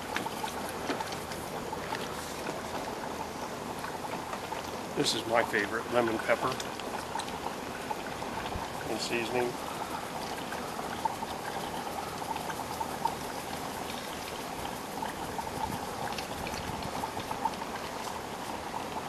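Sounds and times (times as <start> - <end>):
food simmering with small pops: 0.0 - 19.0.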